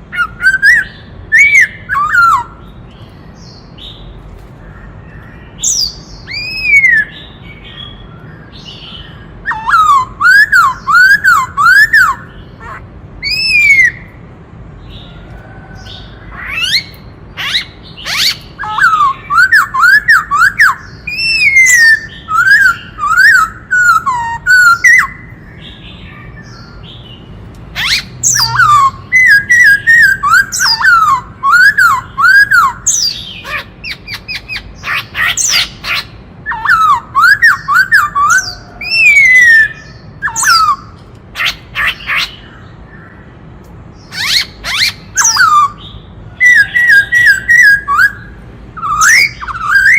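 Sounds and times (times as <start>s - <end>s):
bird singing whistled notes: 0.1s - 4.2s, 5.1s - 12.4s, 13.2s - 14.2s, 15.9s - 27.2s, 27.8s - 41.0s, 44.0s - 49.9s.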